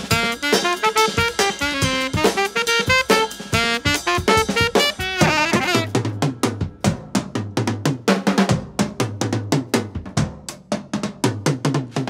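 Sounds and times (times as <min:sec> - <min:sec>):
fast drum beat: 0:00.0 - 0:12.0.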